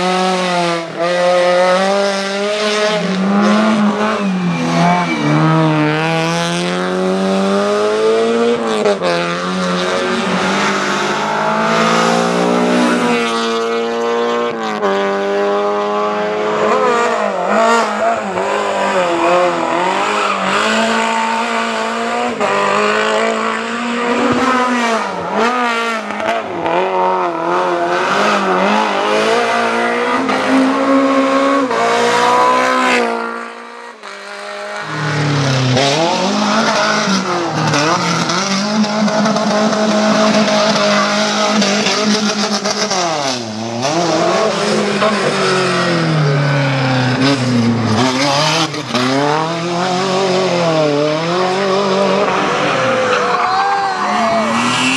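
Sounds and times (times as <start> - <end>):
race car engines revving hard: 0.0 - 54.9.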